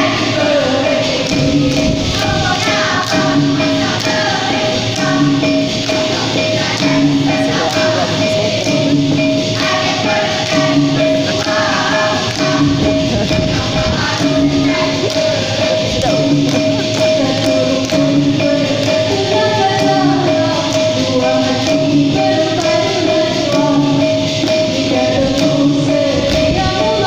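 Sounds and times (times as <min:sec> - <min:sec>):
person singing through microphone: 0:00.0 - 0:08.8, 0:09.6 - 0:27.0
held tone: 0:00.0 - 0:27.0
percussion beat with jingling: 0:00.0 - 0:27.0.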